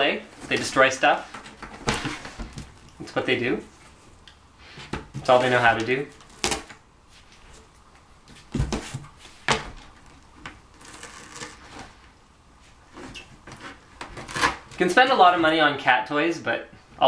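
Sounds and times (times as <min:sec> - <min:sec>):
cardboard and tape rustling: 0:00.2 - 0:15.6.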